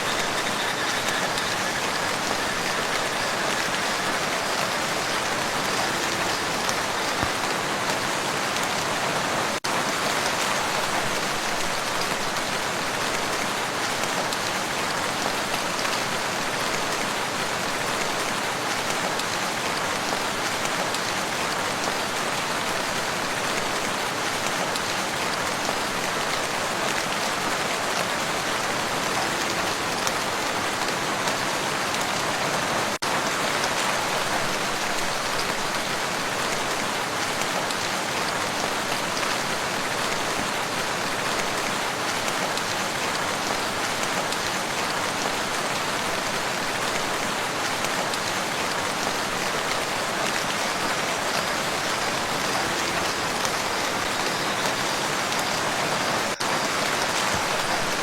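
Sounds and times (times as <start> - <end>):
rain falling on a lake: 0.0 - 58.0.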